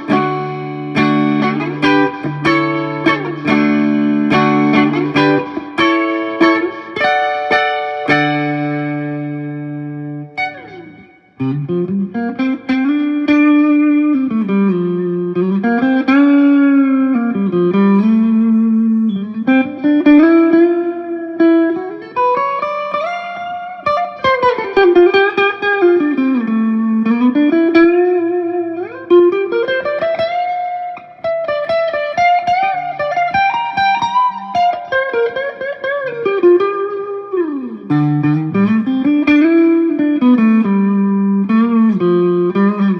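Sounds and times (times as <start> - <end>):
electric guitar chords: 0.0 - 42.9
electric guitar lead with bends: 0.0 - 42.9.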